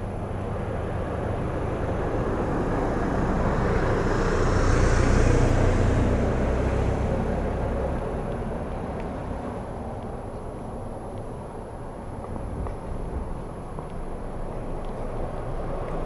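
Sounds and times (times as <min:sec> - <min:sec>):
road vehicle passing by: 0:00.0 - 0:16.0.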